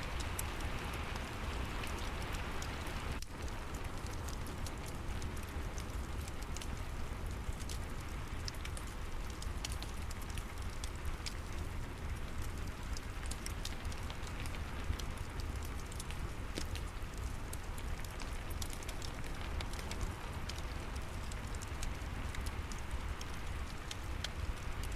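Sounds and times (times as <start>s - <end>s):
rain hiss: 0.0s - 24.9s
wood fire crackling: 0.0s - 24.9s.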